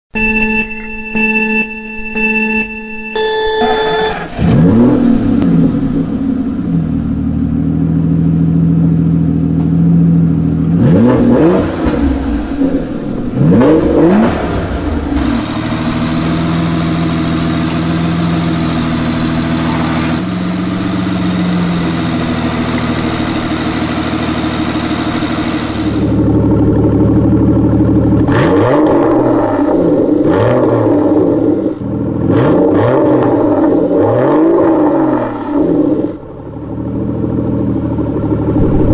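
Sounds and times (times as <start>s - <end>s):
car engine idling and revving: 3.6s - 38.9s.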